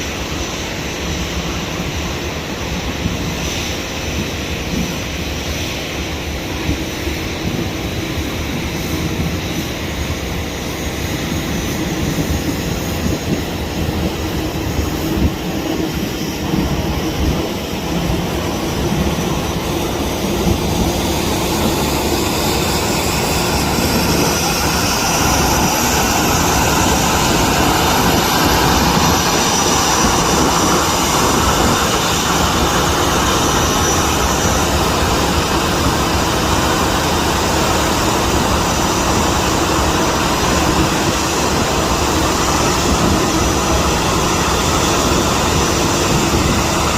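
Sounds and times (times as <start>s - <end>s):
airliner engines running: 0.0s - 46.9s.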